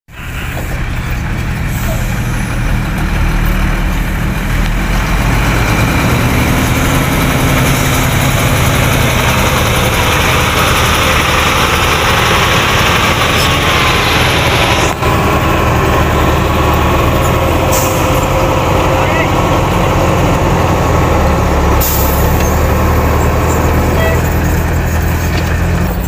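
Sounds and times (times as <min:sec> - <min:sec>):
diesel machinery engine drone: 0:00.1 - 0:26.0.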